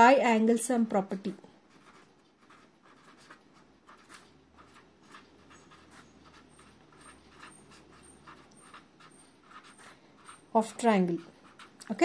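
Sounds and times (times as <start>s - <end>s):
pen scratching on paper: 1.7s - 12.0s.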